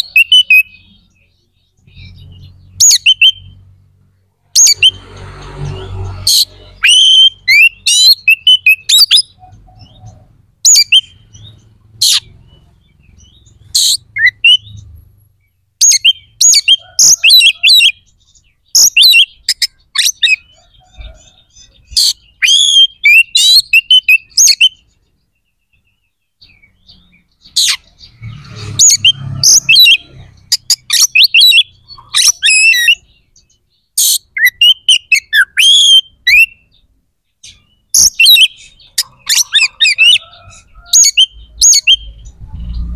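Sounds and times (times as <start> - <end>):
bird singing whistles and chirps: 0.0 - 3.6, 6.3 - 42.9.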